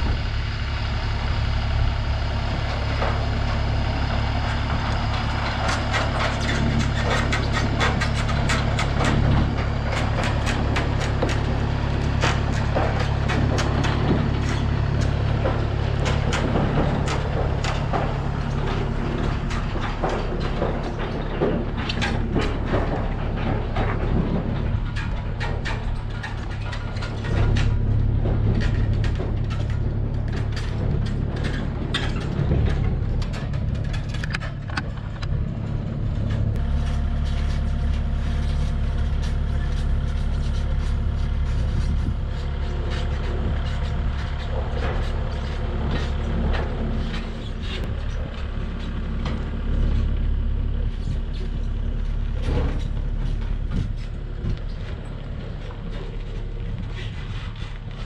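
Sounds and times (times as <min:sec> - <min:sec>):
diesel engine running: 0:00.0 - 0:58.0
tracks and load clanking: 0:00.0 - 0:58.0.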